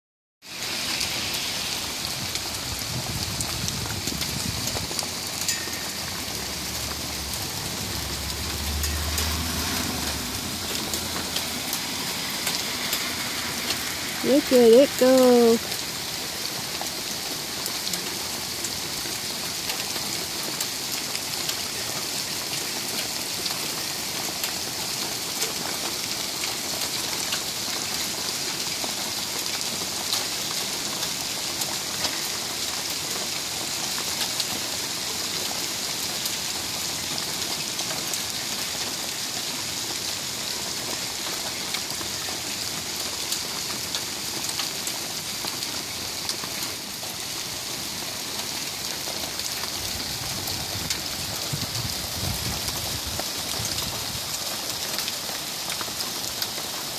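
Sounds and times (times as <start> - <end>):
heavy rain and hail: 0.4 - 56.9.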